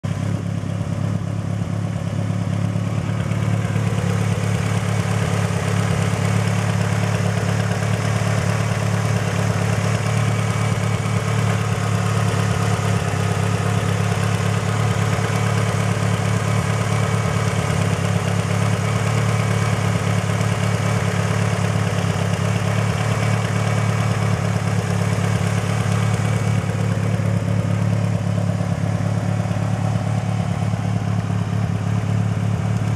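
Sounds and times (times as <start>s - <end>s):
car engine idling: 0.0s - 32.9s
engine ticking: 0.0s - 32.9s.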